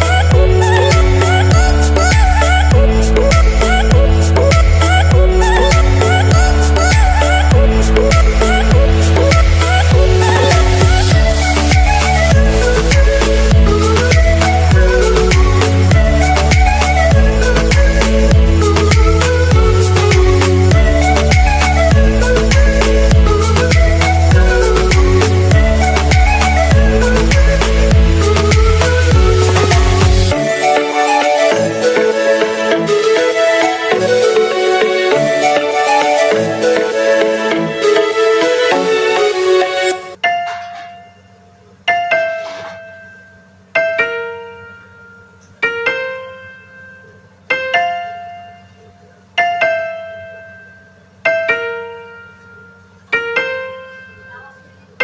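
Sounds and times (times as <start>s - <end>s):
held synth notes: 0.0s - 55.0s.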